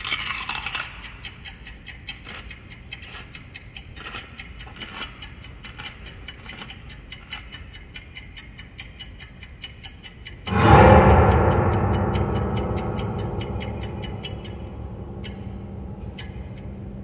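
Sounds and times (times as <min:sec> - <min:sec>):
clock ticking: 0:00.9 - 0:17.0.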